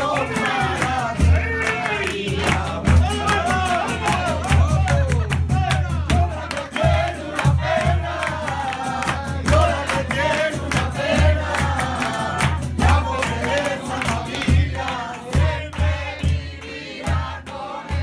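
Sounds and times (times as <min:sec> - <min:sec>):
hands clapping a rhythm: 0:00.0 - 0:18.0
men singing together: 0:00.0 - 0:18.0
strummed acoustic guitar: 0:00.0 - 0:18.0.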